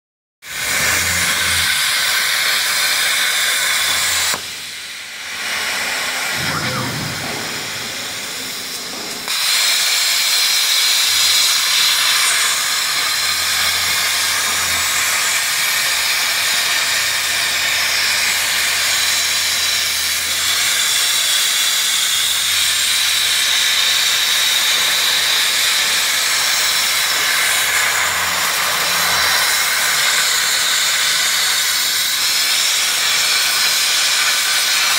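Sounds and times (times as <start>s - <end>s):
plasma torch hissing: 0.5s - 34.9s.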